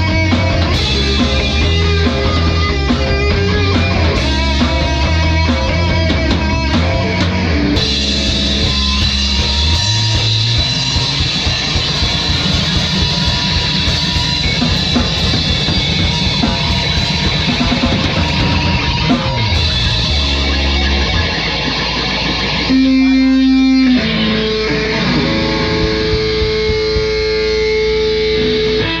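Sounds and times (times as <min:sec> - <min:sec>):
heavy rock music: 0:00.0 - 0:29.0.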